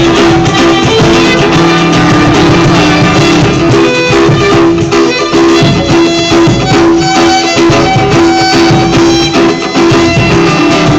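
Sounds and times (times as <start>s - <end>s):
string instruments playing: 0.0s - 10.9s.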